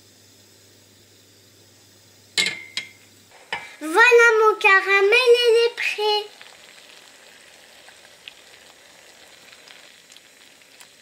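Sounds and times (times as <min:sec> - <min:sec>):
caramel bubbling in a saucepan: 0:00.0 - 0:11.0.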